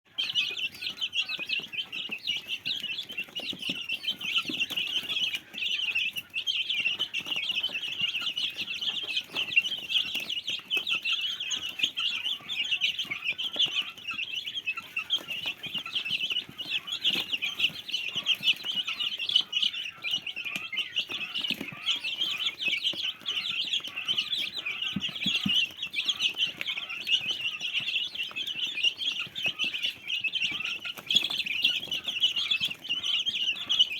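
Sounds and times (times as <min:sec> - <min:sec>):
chickens clucking: 0:00.1 - 0:33.9
chicks peeping: 0:00.1 - 0:33.9.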